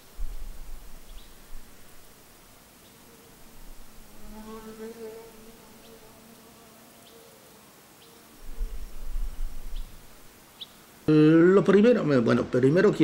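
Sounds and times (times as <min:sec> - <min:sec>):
flying insect buzzing: 0:00.0 - 0:11.1.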